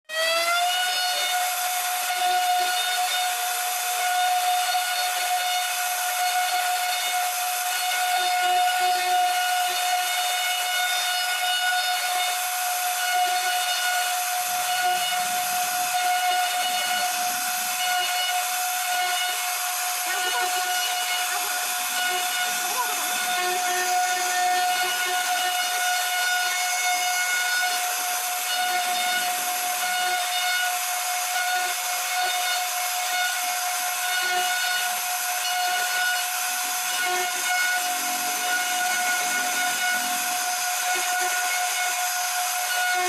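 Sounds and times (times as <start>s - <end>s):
router spindle whining: 0.1s - 43.0s.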